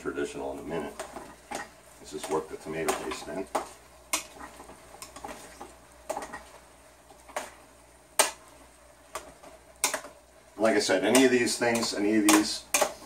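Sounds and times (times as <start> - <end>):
spoon stirring meat in pot: 0.7 - 13.0.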